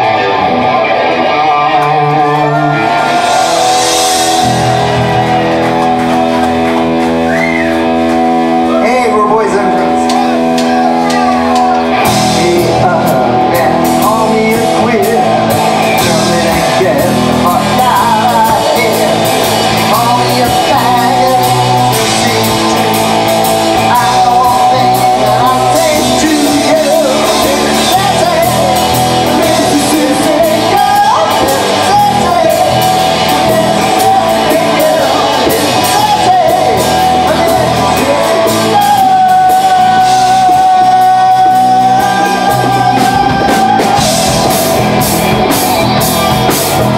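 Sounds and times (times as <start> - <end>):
person singing and shouting: 0.0 - 5.4, 8.6 - 45.1
drum kit: 0.0 - 46.9
electric guitars: 0.0 - 46.9.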